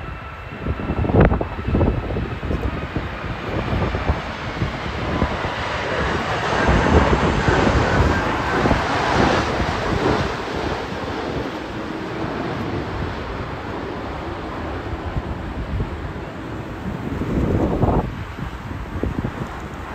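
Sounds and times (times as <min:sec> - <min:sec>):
jet airliner engines: 0:00.0 - 0:19.9
wind buffeting microphone: 0:00.0 - 0:19.9.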